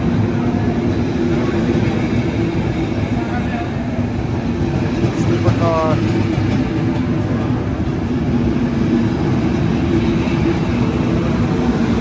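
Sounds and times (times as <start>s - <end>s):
train cars rolling past: 0.0s - 12.0s.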